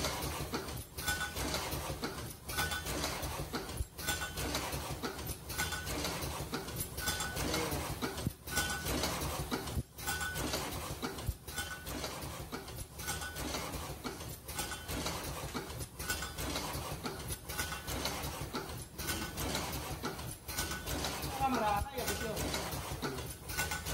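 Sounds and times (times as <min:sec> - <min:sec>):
machine clattering and clicking: 0:00.0 - 0:23.9.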